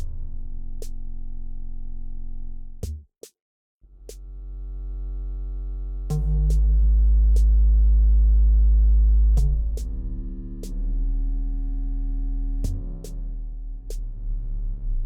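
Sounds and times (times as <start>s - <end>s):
low synthesizer bass drone: 0.0s - 2.8s, 3.9s - 15.0s.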